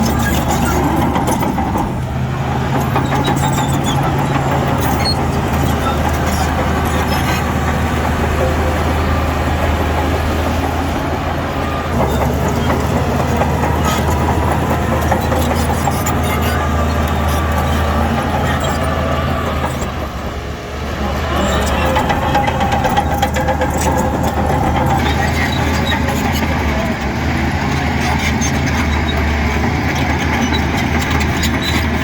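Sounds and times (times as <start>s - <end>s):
heavy diesel machinery engine: 0.0s - 32.0s.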